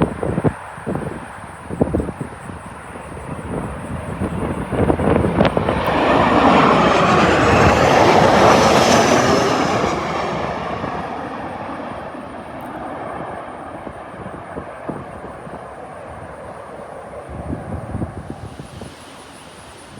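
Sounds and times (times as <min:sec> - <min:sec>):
jet flying low overhead: 0:00.0 - 0:19.9
wind buffeting microphone: 0:00.0 - 0:19.9.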